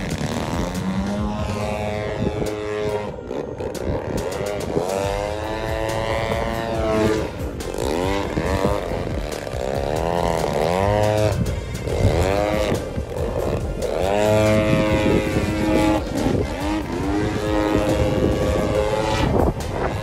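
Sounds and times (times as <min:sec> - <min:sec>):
model plane engine: 0:00.0 - 0:20.0.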